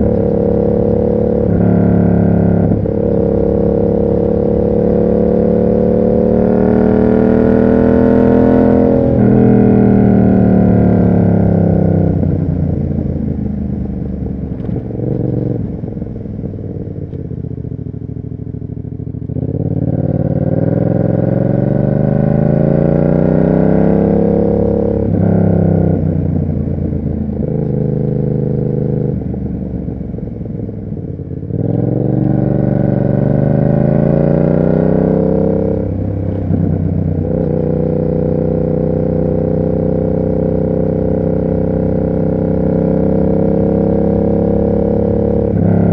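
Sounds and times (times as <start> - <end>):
motorcycle engine shifting gears: 0.0 - 45.9.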